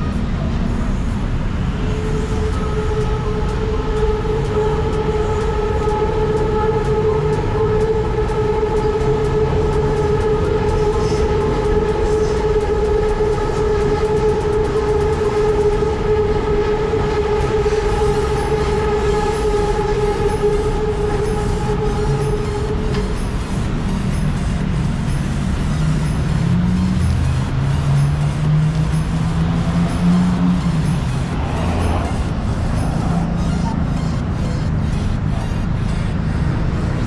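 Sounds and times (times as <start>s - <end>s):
steady whine: 0.0s - 37.0s
train rumble: 0.0s - 37.0s.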